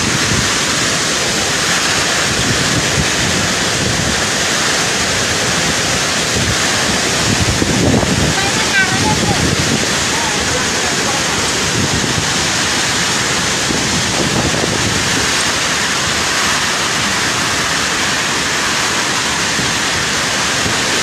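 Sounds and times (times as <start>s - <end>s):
heavy rain: 0.0s - 21.0s
storm wind: 0.0s - 21.0s.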